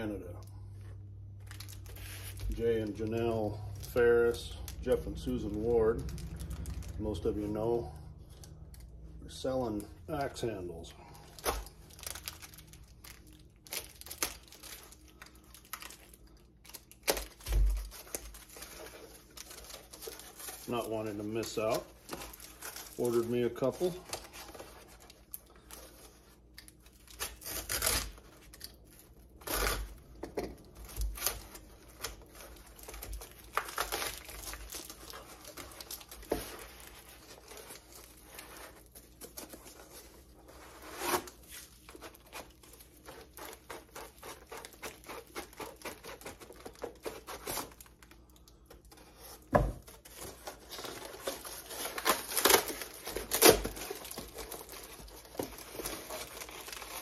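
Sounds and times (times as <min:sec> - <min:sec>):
cardboard and tape tearing: 0:01.4 - 0:07.7, 0:11.1 - 0:57.0.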